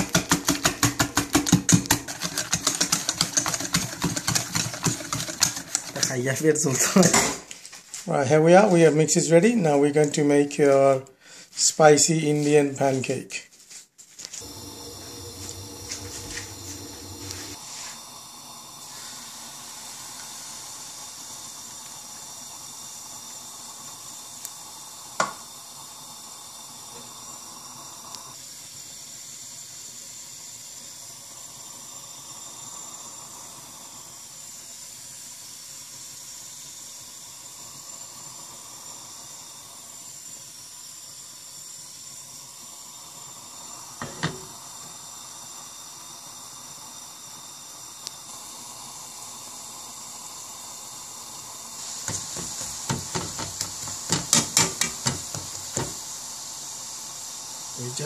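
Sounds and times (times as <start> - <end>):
batter sizzling in oil: 0.0 - 11.0, 12.0 - 58.0.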